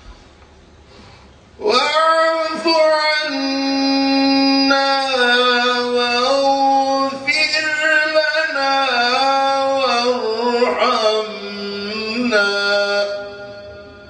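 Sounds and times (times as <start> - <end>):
man reciting melodically: 1.6 - 13.9.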